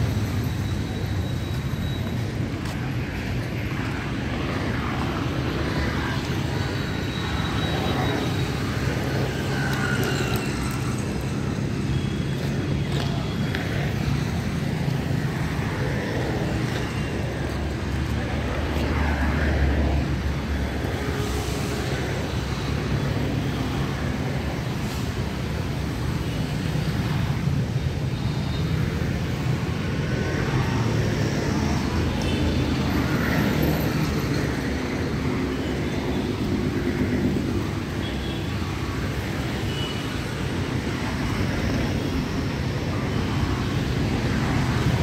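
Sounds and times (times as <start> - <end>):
busy road traffic: 0.0 - 45.0.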